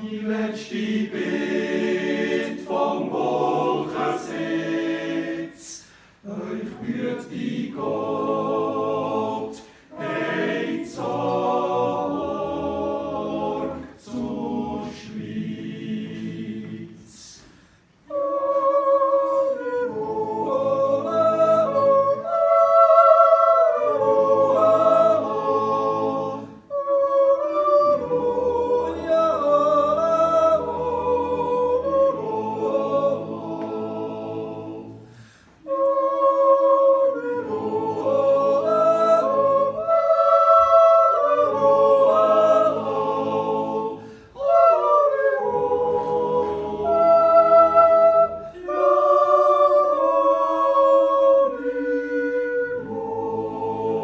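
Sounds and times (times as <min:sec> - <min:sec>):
men's choir singing a cappella: 0:00.0 - 0:54.0.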